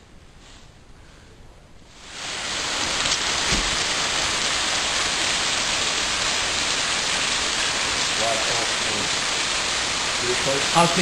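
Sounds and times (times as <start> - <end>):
rushing water: 1.9 - 11.0.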